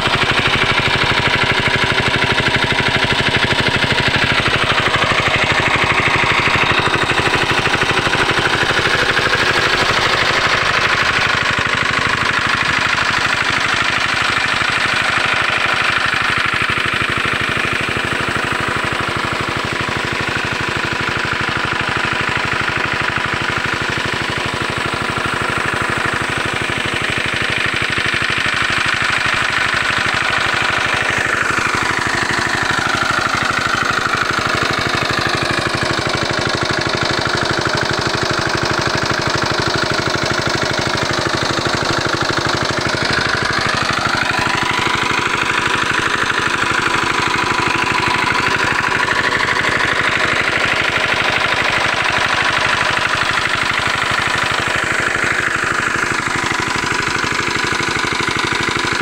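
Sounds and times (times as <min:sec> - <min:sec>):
diesel engine running: 0:00.0 - 0:59.0
water gushing from pipe: 0:00.0 - 0:59.0.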